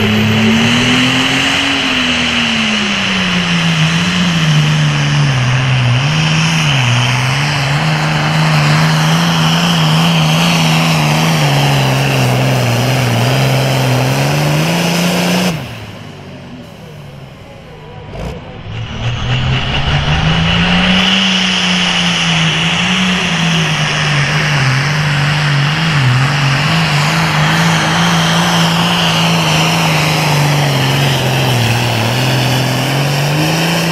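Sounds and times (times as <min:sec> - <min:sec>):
diesel tractor engine under load: 0:00.0 - 0:19.8, 0:20.4 - 0:33.9.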